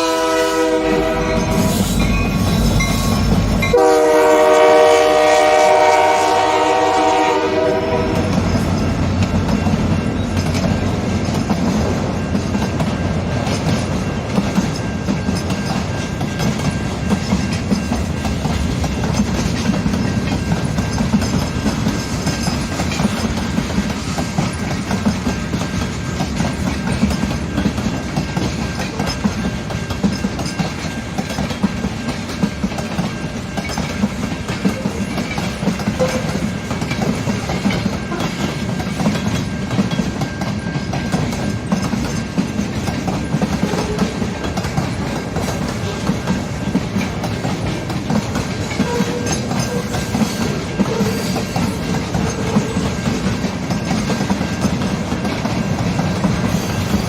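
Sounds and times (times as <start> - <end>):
freight train rumbling past: 0.0 - 57.0
wheels clacking over rail joints: 0.1 - 57.0.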